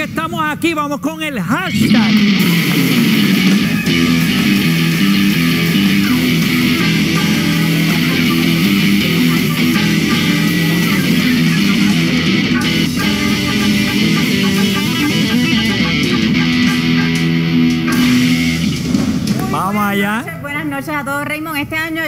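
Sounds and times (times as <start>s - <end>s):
bass guitar: 1.5s - 20.0s
electric guitar: 1.6s - 19.7s
band playing: 1.7s - 19.9s.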